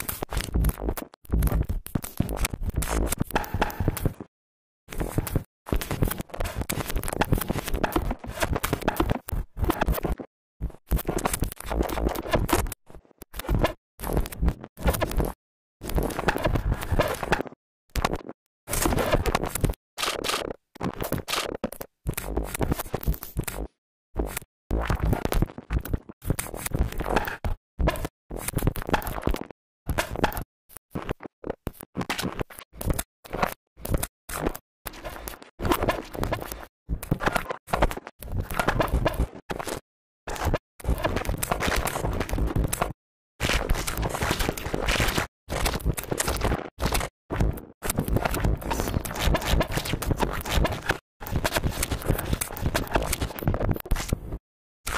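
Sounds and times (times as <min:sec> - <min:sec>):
harsh scratching noise music: 0:00.1 - 0:04.3, 0:05.0 - 0:12.7, 0:13.3 - 0:30.4, 0:34.3 - 0:54.2.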